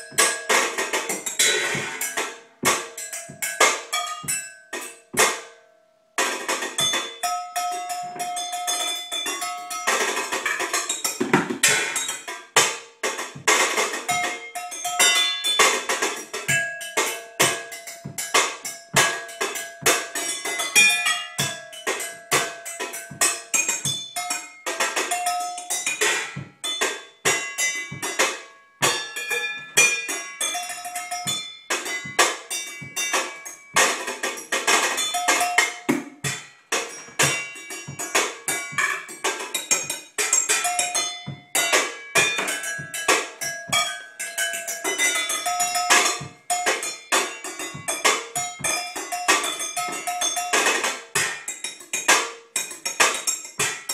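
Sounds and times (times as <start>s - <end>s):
knives drumming on pots and pans: 0.0s - 5.6s, 6.2s - 53.9s.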